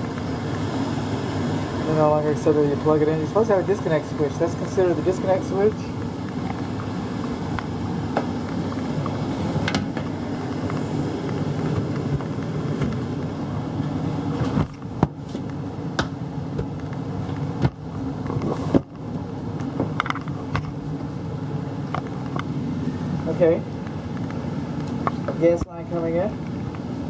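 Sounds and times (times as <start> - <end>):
furnace air handler humming: 0.0 - 27.0.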